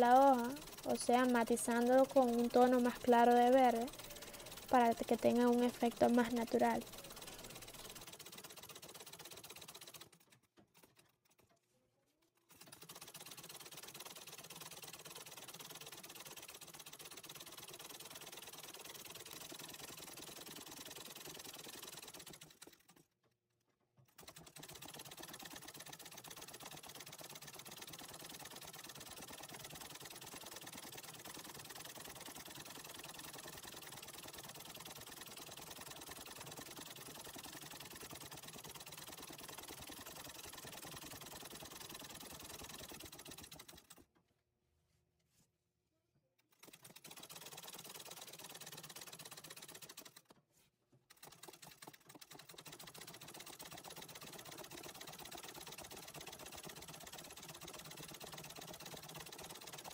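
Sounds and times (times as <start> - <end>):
treadle sewing machine stitching: 0.0 - 11.6, 12.3 - 23.2, 24.0 - 44.2, 46.4 - 50.4, 51.0 - 59.9.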